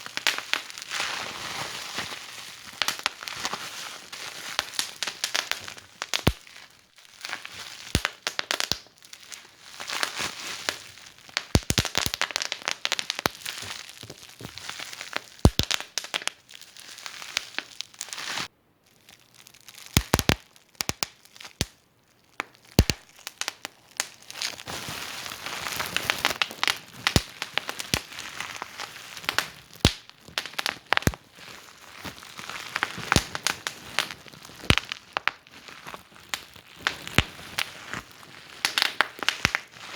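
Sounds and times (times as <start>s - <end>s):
wood fire crackling: 0.0s - 1.1s, 2.5s - 21.7s, 22.3s - 39.9s.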